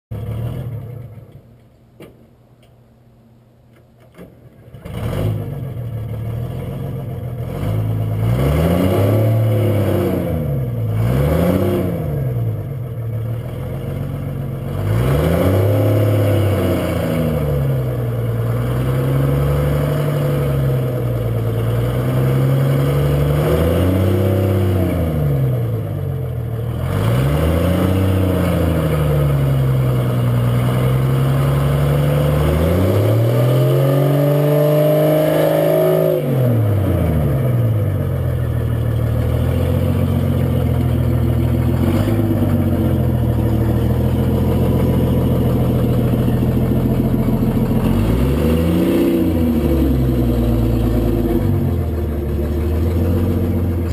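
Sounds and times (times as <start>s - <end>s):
diesel engine starting and revving: 0.1s - 1.6s, 4.0s - 53.9s.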